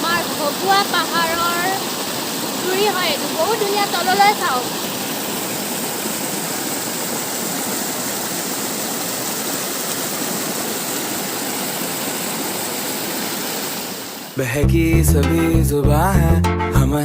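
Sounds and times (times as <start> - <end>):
waterfall rushing and splashing: 0.0 - 14.4.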